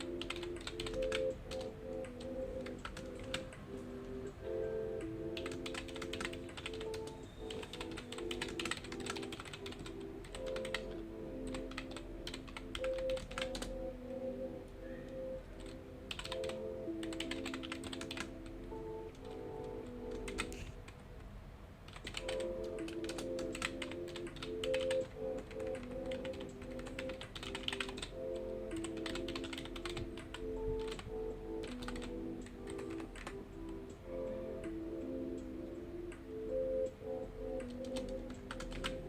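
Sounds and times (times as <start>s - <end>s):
computer keyboard typing: 0.0s - 21.0s, 21.9s - 39.0s
soft background music: 0.0s - 39.0s.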